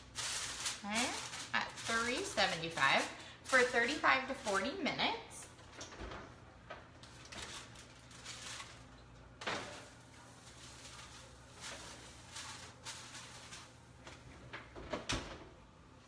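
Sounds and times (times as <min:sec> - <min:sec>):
oven door and metal rack: 0:00.0 - 0:15.8.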